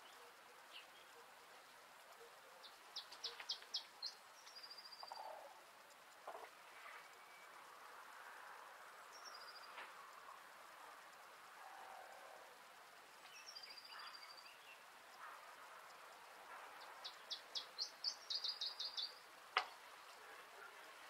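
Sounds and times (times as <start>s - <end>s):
birds chirping: 0.0s - 8.0s, 9.0s - 21.0s.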